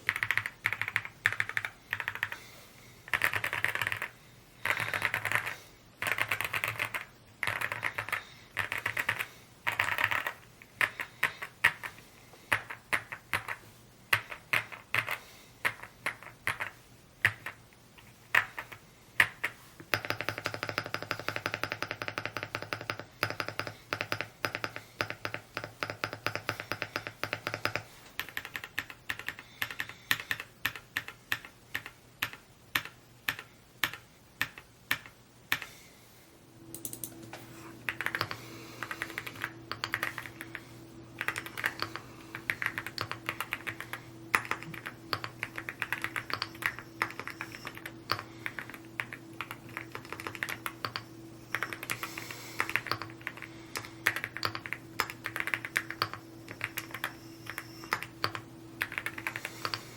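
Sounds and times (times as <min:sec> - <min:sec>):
mechanical keyboard typing: 0:00.0 - 0:02.4, 0:03.1 - 0:17.6, 0:18.3 - 0:35.7, 0:37.9 - 0:40.6, 0:41.2 - 0:59.9
steady low hum: 0:00.0 - 0:59.9.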